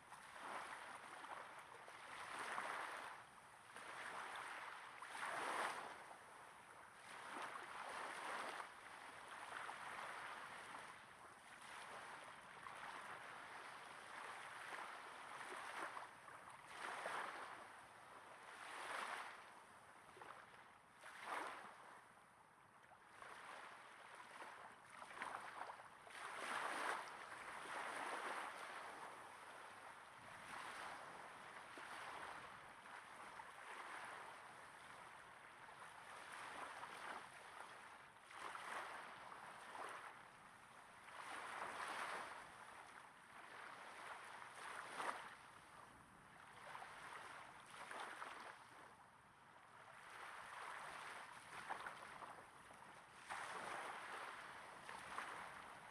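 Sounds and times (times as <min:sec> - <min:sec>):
small waves breaking on sand: 0:00.0 - 0:55.9.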